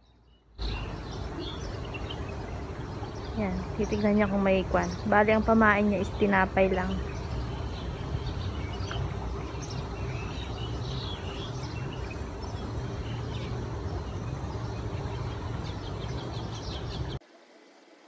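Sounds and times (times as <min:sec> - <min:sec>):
low outdoor rumble: 0:00.0 - 0:17.2
small birds chirping: 0:00.0 - 0:17.2.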